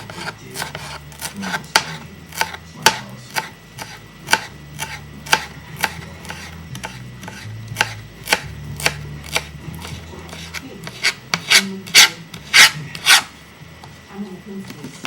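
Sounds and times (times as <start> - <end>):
knife chopping on cutting board: 0.0 - 13.3.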